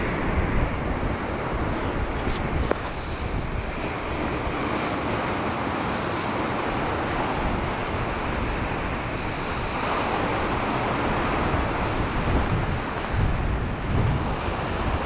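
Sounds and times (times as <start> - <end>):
wind buffeting microphone: 0.0 - 5.4, 6.6 - 15.0
sea surf washing: 0.0 - 15.0.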